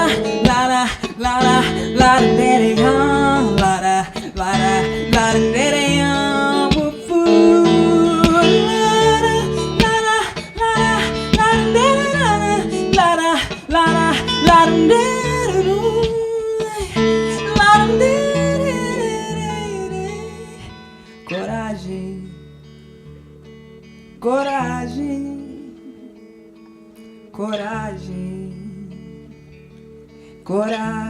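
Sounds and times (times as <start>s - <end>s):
woman singing: 0.0s - 22.8s, 24.2s - 29.6s, 30.2s - 31.0s
percussive acoustic guitar: 0.0s - 31.0s.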